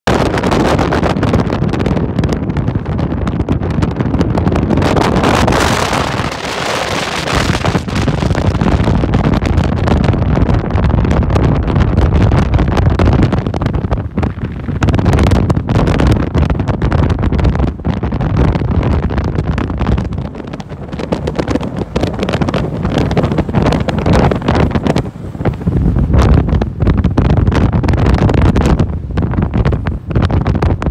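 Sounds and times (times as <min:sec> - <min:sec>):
strong gusty wind buffeting microphone: 0:00.0 - 0:30.9.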